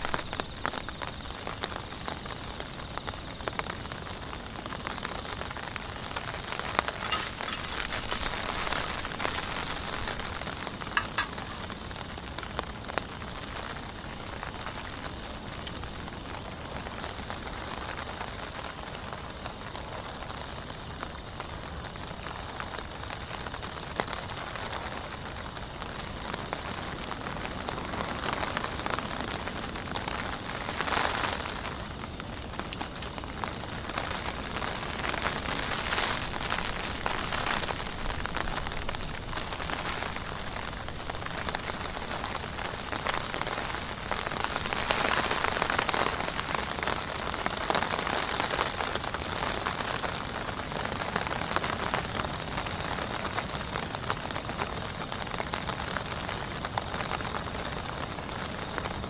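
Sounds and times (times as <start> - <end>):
sharp raindrop taps: 0.0 - 58.8
heavy rain falling: 0.0 - 59.0.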